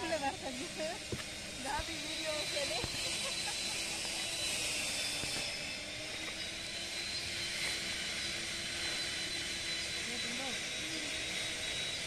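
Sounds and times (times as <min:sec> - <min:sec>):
high steady whine: 0:00.0 - 0:12.0.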